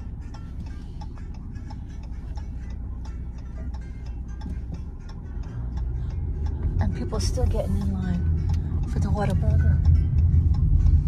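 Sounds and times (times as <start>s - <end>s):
car driving slowly: 0.0s - 11.0s
steady ticking: 0.0s - 11.0s.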